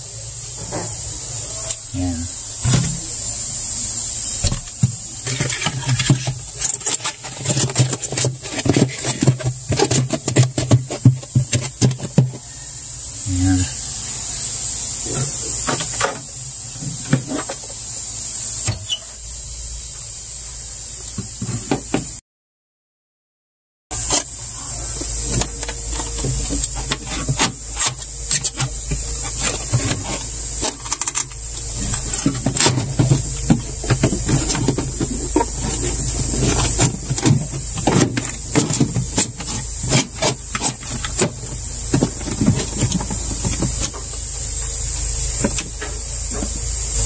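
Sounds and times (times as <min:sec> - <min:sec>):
steady hiss: 0:00.0 - 0:22.2, 0:23.9 - 0:47.0.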